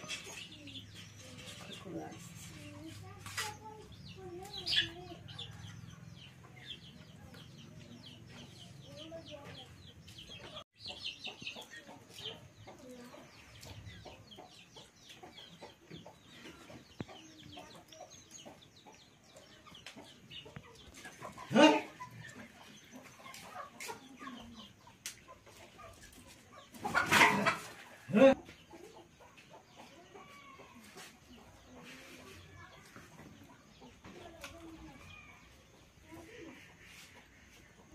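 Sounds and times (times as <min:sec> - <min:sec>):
chicken clucking: 0:00.0 - 0:37.9.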